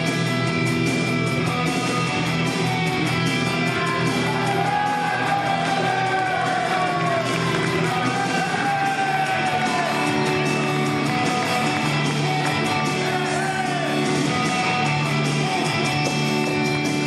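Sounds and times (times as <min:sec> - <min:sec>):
rock guitar music: 0:00.0 - 0:17.0.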